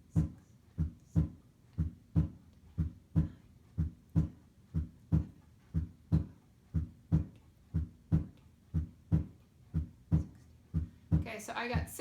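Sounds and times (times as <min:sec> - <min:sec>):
slow heartbeat lub-dub: 0:00.0 - 0:11.9.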